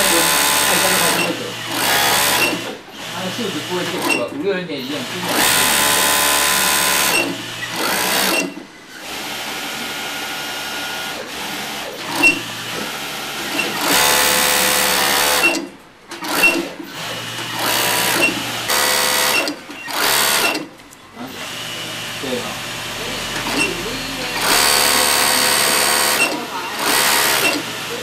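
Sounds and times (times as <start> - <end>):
sewing machine running: 0.0 - 4.3, 4.9 - 28.0.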